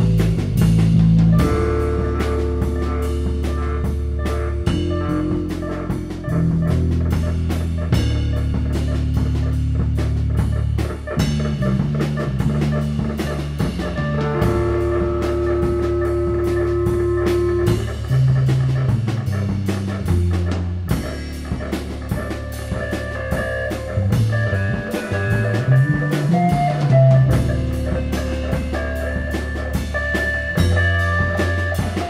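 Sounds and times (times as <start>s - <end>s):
bass line: 0.0s - 32.0s
drum kit beat: 0.0s - 32.0s
electric guitar: 0.0s - 32.0s.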